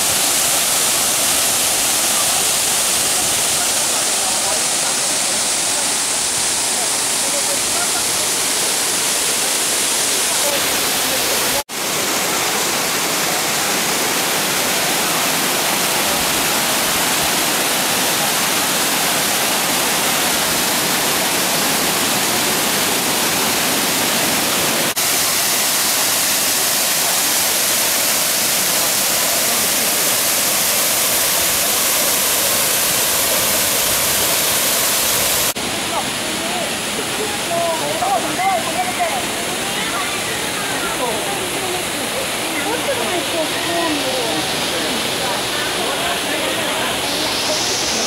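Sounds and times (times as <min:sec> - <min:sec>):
waterfall rushing water: 0:00.0 - 0:48.0.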